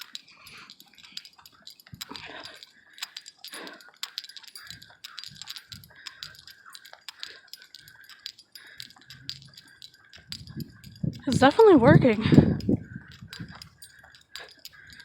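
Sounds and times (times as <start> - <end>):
dog leash metal jingling: 0.0 - 15.0.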